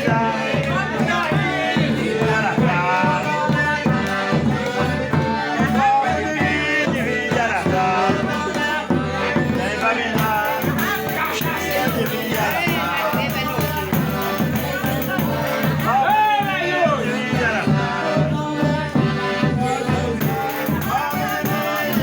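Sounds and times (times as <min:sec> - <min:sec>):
group singing folk song: 0:00.0 - 0:22.0
instrumental accompaniment: 0:00.0 - 0:22.0.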